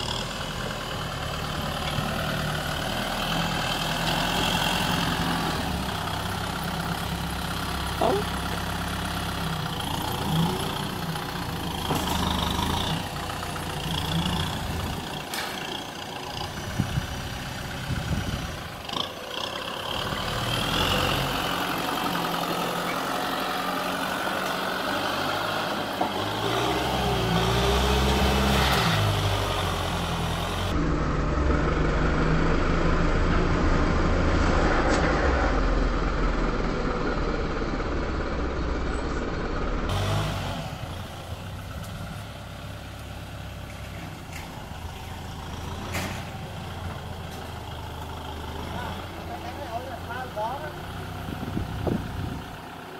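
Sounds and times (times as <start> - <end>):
tractor diesel engine: 0.0 - 52.9.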